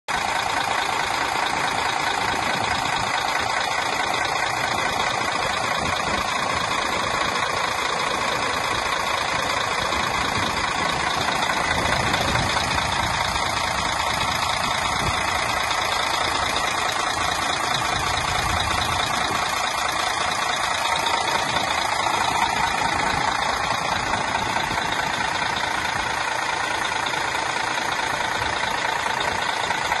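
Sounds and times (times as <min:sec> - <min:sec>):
diesel engine idling: 0:00.1 - 0:30.0.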